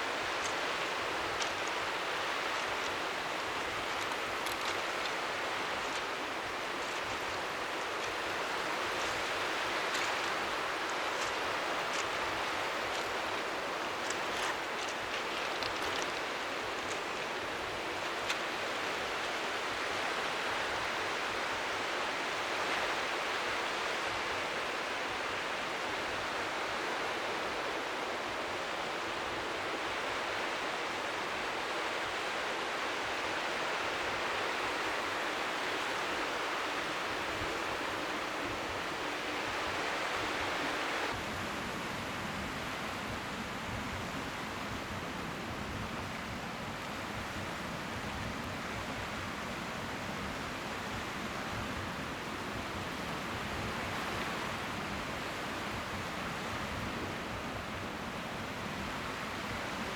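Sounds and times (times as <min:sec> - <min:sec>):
strong wind blowing: 0:00.0 - 0:59.9
waves lapping faintly: 0:00.0 - 0:59.9.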